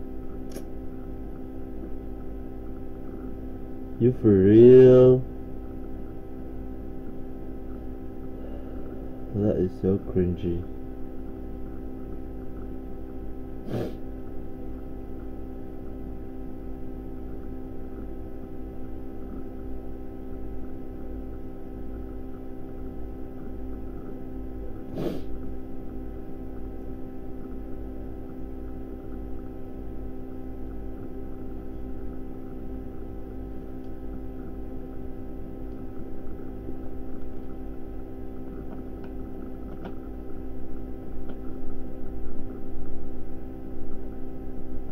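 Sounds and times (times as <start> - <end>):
steady electrical hum: 0.0 - 44.9.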